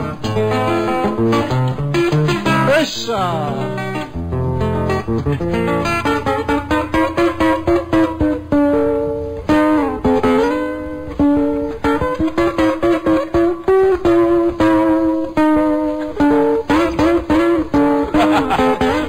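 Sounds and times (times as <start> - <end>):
guitar waltz plucked notes: 0.0 - 19.0.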